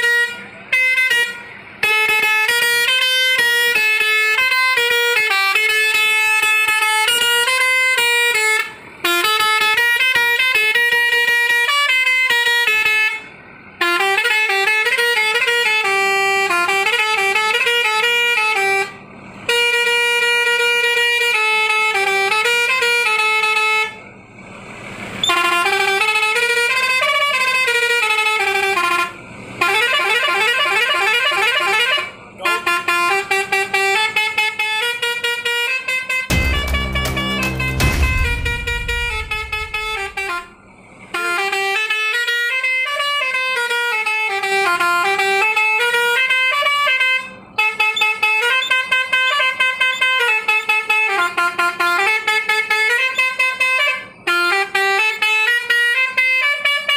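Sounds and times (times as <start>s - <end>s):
musical truck horn: 0.0s - 24.2s, 25.2s - 56.9s.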